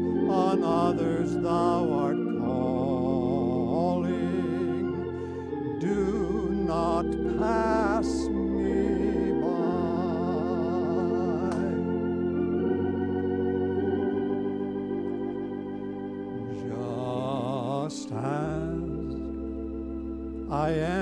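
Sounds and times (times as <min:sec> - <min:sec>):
organ playing a hymn: 0:00.0 - 0:21.0.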